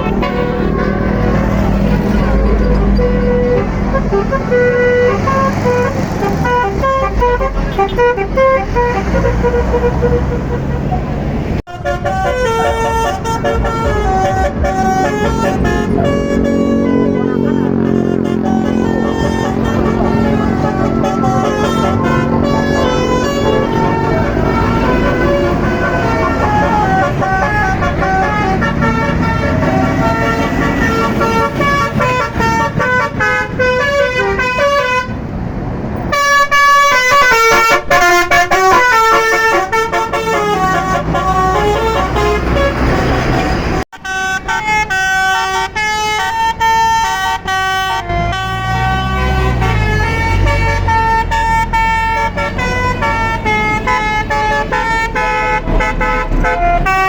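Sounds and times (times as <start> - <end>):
bus engine rumbling: 0.0 - 57.0
bus horns playing melodic tunes: 0.0 - 57.0.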